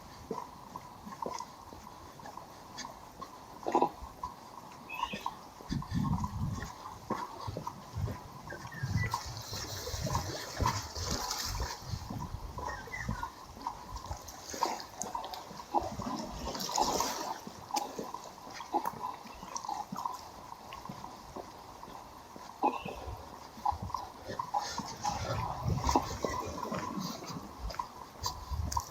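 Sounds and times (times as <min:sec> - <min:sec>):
footsteps on hard walkway: 0:00.0 - 0:28.9
sea waves washing on shore: 0:00.0 - 0:28.9.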